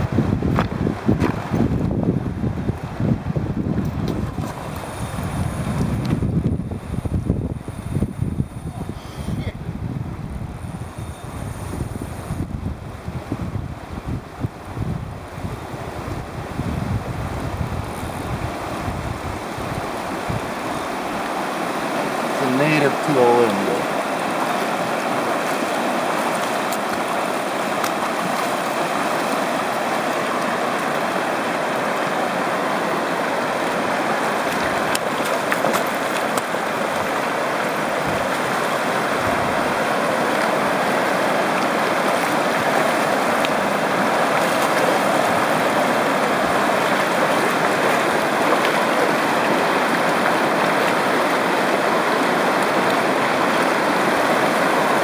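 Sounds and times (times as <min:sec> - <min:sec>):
river rushing over stones: 0:00.0 - 0:55.0.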